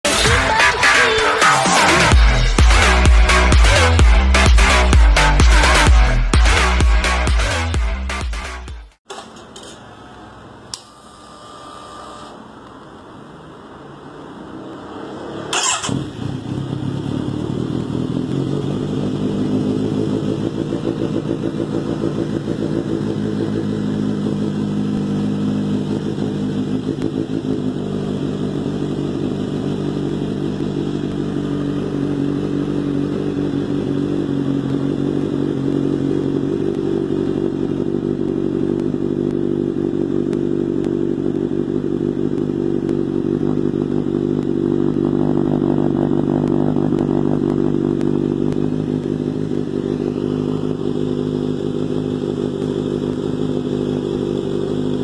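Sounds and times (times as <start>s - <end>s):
motorcycle engine starting and idling: 0.1s - 13.0s, 14.2s - 55.0s.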